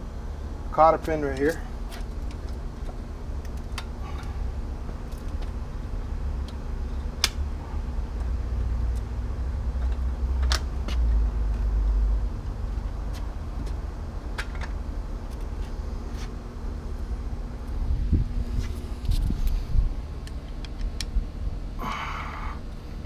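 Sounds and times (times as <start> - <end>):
low rumble: 1.7 - 23.0.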